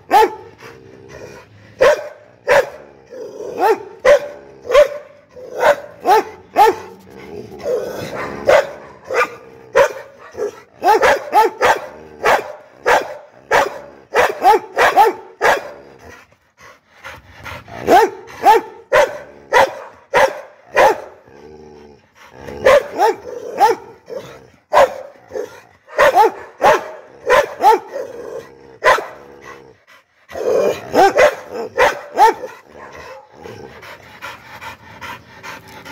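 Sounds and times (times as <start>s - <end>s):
dog barking angrily: 0.0s - 16.1s, 17.7s - 21.4s, 22.3s - 29.6s, 30.3s - 33.9s.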